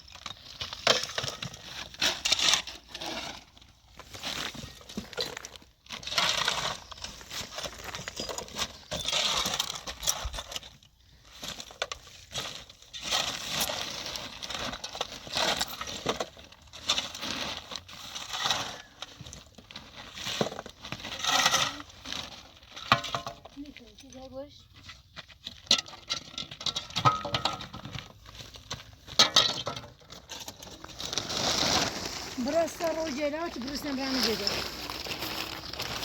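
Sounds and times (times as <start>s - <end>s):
debris crunching and clattering: 0.0s - 36.0s.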